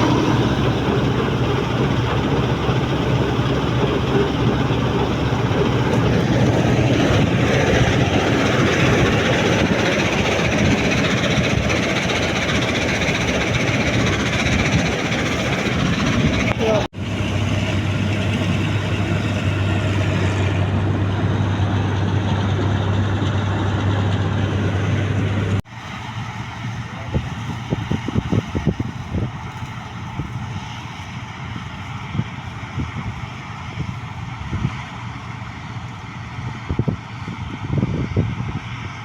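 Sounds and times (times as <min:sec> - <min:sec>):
combine harvester humming: 0:00.0 - 0:39.0.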